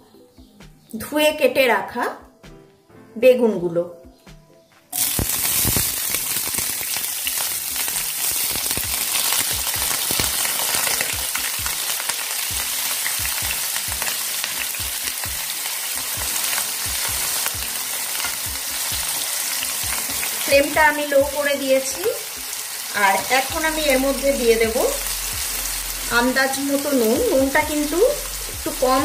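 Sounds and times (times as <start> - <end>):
vegetables sizzling in oil: 4.9 - 29.0.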